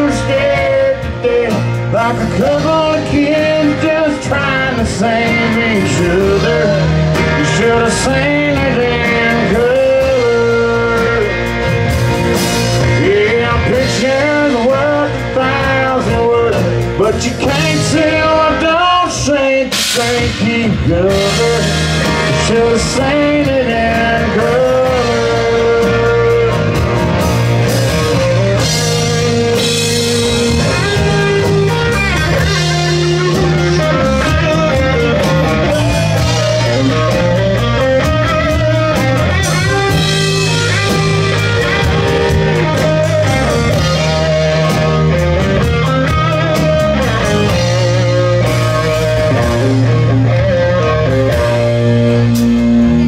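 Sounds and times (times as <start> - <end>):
bass guitar: 0.0 - 53.0
drum kit: 0.0 - 53.0
electric guitar lead melody: 0.0 - 53.0.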